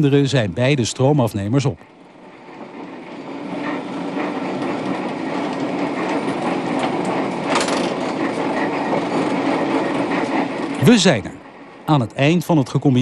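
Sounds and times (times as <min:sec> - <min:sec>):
tram clank: 0:00.0 - 0:13.0
tram wheels rattling on rails: 0:00.0 - 0:13.0.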